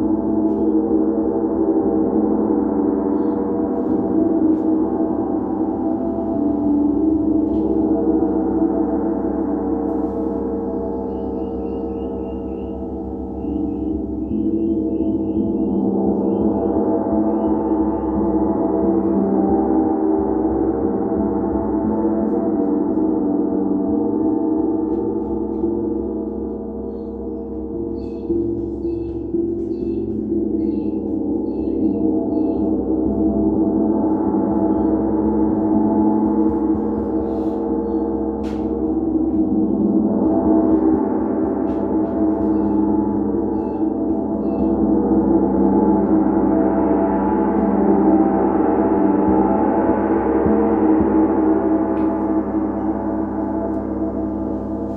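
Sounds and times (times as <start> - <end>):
gong shimmering: 0.0 - 54.9.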